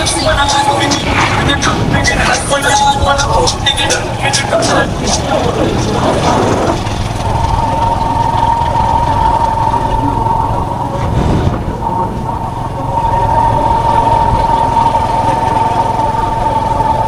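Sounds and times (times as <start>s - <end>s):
steady high whine: 0.0s - 17.0s
vehicle engine and road rumble: 0.0s - 17.0s.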